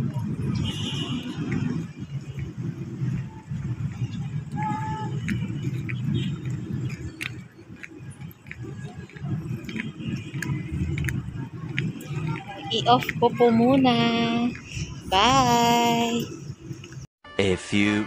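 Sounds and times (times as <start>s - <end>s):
low street rumble: 0.0s - 17.1s.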